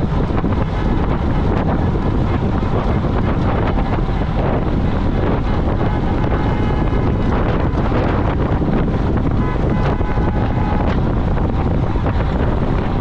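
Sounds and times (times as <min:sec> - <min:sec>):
wind rush on microphone: 0:00.0 - 0:13.0.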